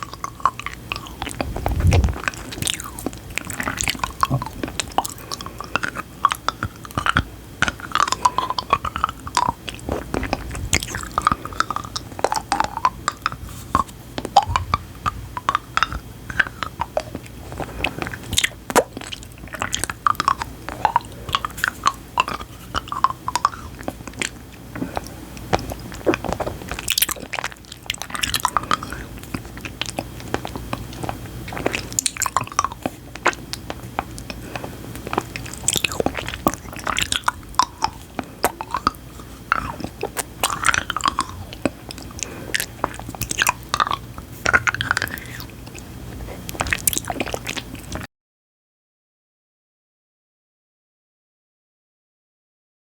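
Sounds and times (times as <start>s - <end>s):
chewing and wet mouth sounds: 0.0s - 48.1s.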